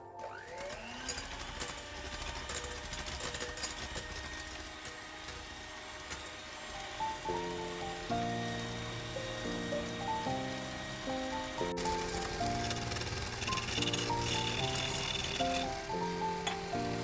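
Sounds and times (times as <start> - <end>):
electric mixer motor running: 0.2 - 17.0.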